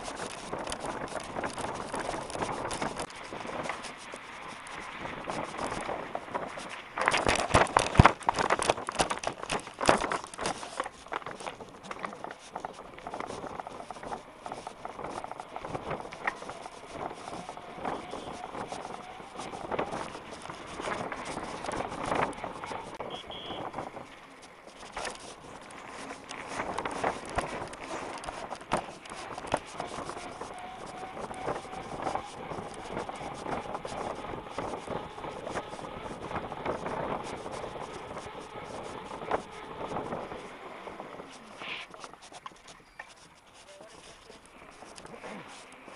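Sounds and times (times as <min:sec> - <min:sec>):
wind on microphone: 0:00.0 - 0:42.6
mountain bike rattling on paving: 0:00.0 - 0:45.9.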